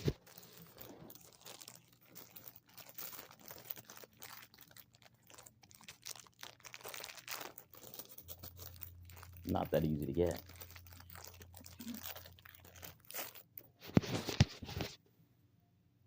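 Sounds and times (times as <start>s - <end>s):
candy wrapper crinkling: 0.0s - 14.9s.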